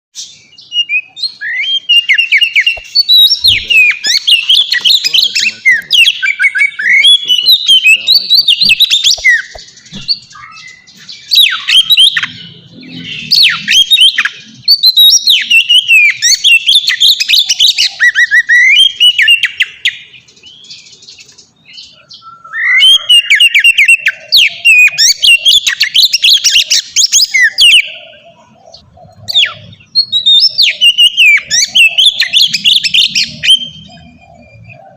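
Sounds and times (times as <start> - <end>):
bird singing whistles and trills: 0.2 - 34.9.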